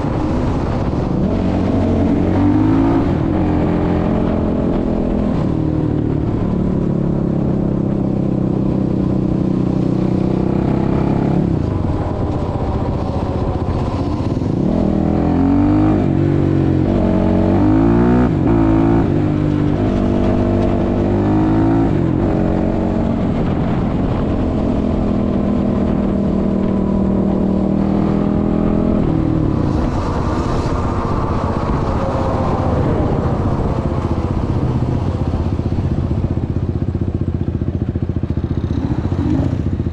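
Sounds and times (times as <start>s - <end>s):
quad engine running: 0.0s - 39.9s
wind on microphone: 0.0s - 39.9s.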